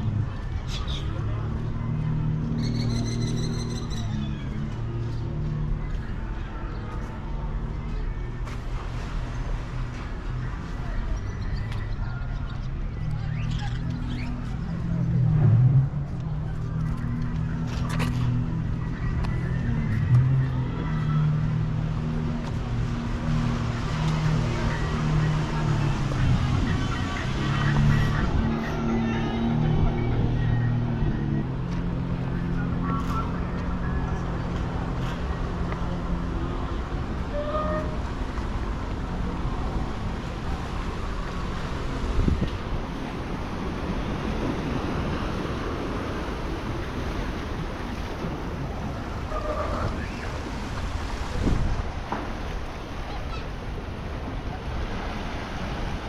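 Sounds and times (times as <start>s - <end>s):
street noise: 0.0s - 56.0s
vehicle engine humming: 0.0s - 56.0s.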